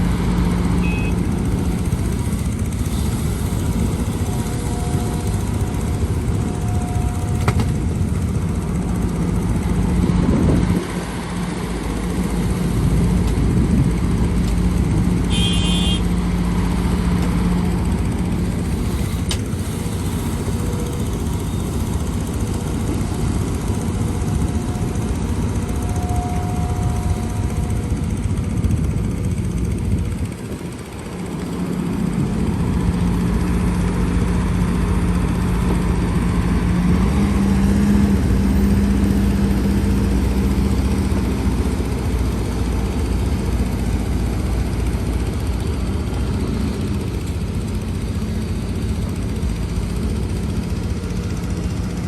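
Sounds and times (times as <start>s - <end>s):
heavy machinery diesel engines: 0.0s - 52.0s.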